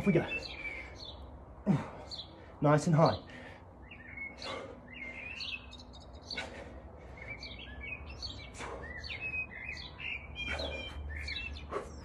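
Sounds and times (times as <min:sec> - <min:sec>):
small birds chirping and singing: 0:00.0 - 0:12.0.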